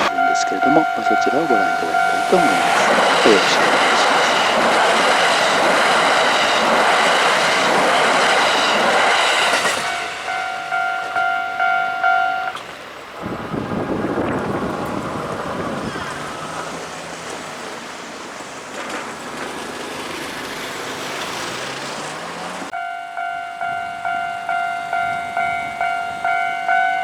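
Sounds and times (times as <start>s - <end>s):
level crossing warning bell: 0.0s - 19.5s, 20.9s - 27.0s
train wheels clattering on rails: 0.0s - 22.7s
road vehicle moving off: 0.0s - 27.0s.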